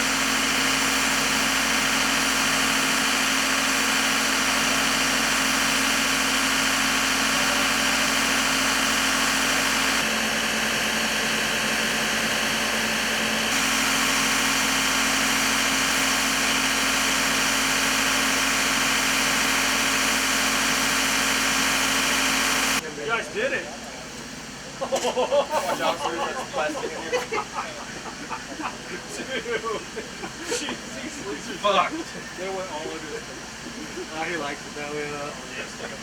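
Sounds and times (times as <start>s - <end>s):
engine idling: 0.0s - 22.8s, 25.6s - 36.0s.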